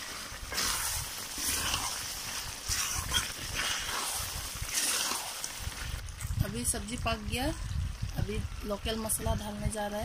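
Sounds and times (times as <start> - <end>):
meat sizzling: 0.0 - 9.5.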